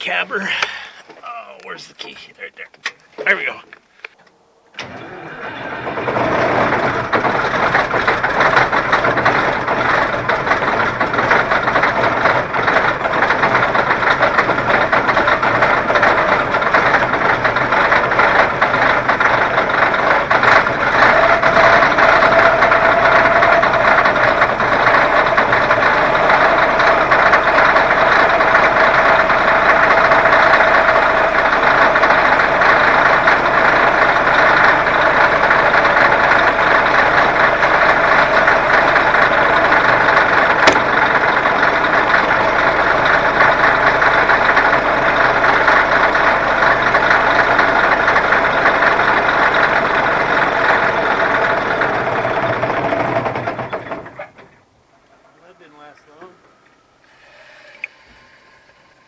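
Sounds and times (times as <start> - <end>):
diesel engine running: 0.0 - 59.0
steady whine: 0.0 - 59.0.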